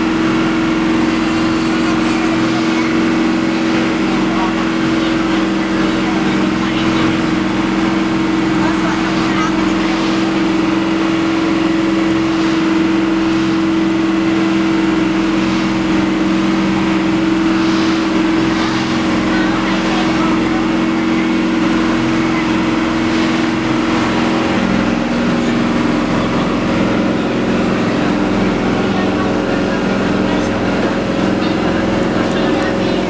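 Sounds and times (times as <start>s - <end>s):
boat engine humming: 0.0s - 33.0s
water rushing: 0.0s - 33.0s.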